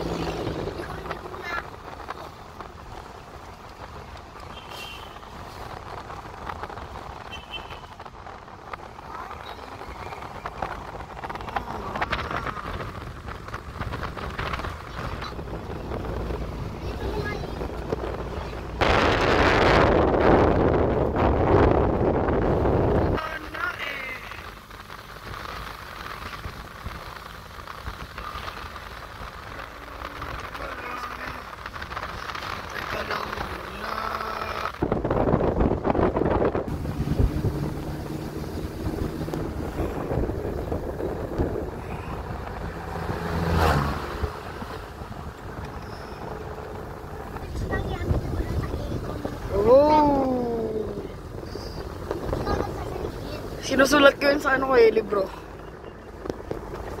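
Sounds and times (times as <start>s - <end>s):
vehicle rumble inside cabin: 0.0s - 4.5s, 5.2s - 57.0s
car road and engine noise: 0.0s - 57.0s.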